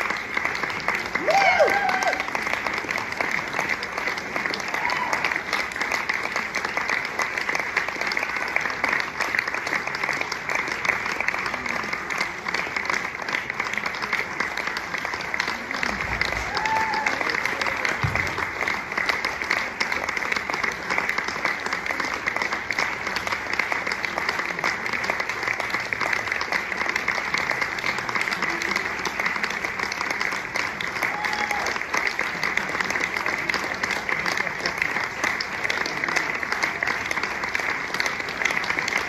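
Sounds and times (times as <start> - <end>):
calls from crowd: 0.0 - 8.6, 10.8 - 20.3, 23.6 - 39.0
audience applauding: 0.0 - 39.0.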